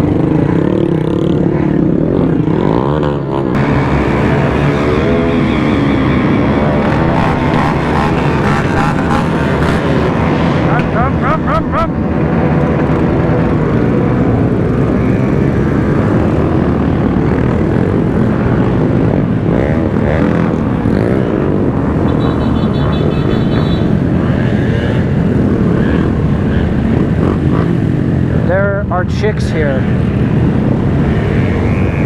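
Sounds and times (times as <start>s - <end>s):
small motorcycle engines running: 0.0s - 32.0s.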